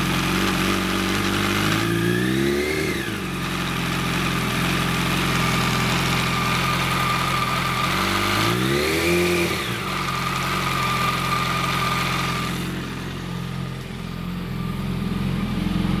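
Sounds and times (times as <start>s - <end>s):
motorcycle engine idling with rattle: 0.0s - 16.0s
motorcycle engine revving: 0.0s - 16.0s.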